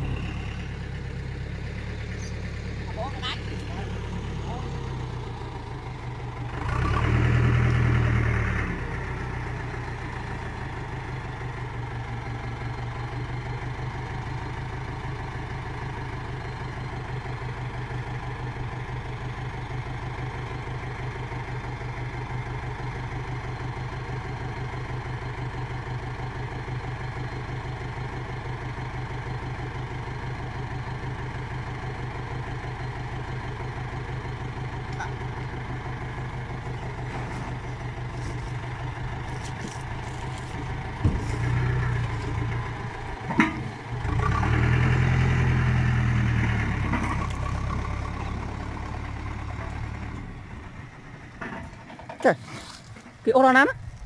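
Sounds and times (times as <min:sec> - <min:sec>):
tractor engine idling and revving: 0:00.0 - 0:54.0.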